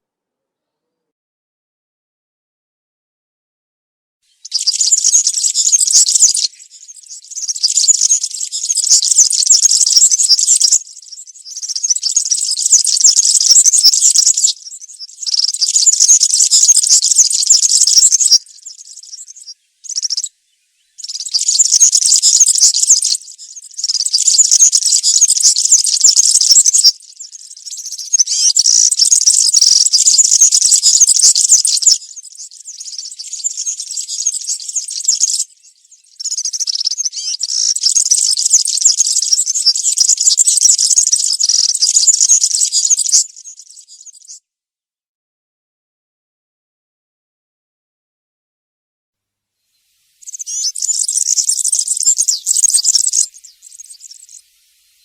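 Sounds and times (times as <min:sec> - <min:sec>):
bird singing high twitter: 0:04.3 - 0:44.4, 0:49.7 - 0:55.0.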